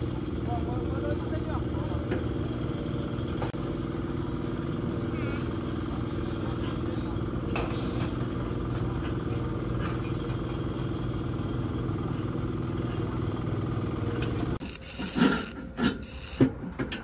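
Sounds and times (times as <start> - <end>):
small engine humming: 0.0 - 16.9.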